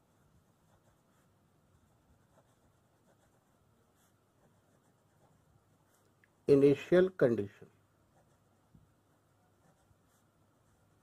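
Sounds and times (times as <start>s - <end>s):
pen scratching on paper: 0.0s - 6.1s, 8.1s - 11.0s.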